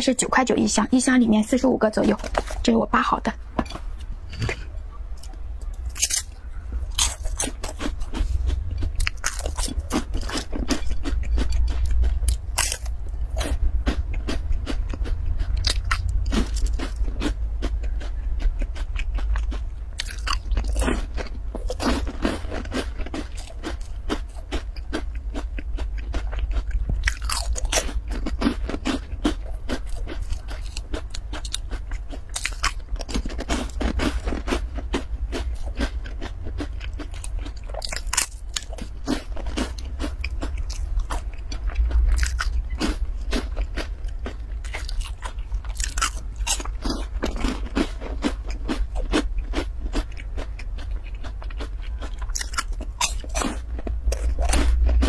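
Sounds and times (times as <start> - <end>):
crunchy food being chewed: 4.0 - 55.0.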